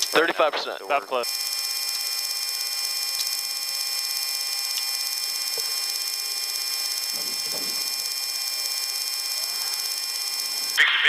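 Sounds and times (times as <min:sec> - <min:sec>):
jet engines whining: 0:00.0 - 0:10.8.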